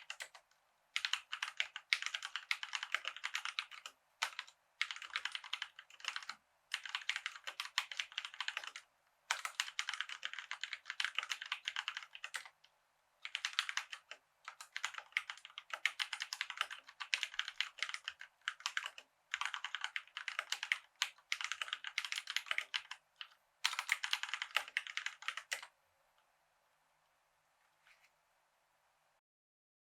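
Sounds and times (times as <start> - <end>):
mechanical keyboard typing: 0.0 - 12.6, 13.2 - 25.7.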